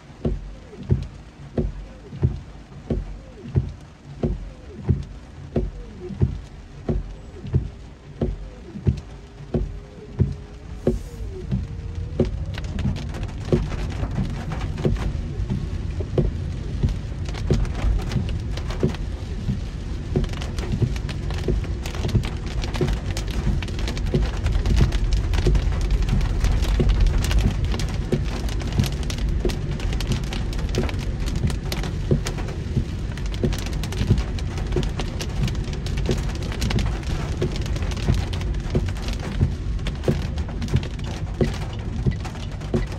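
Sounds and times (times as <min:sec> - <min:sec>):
heavy rain on a car: 0:00.0 - 0:42.9
low rumble of driving: 0:00.0 - 0:42.9.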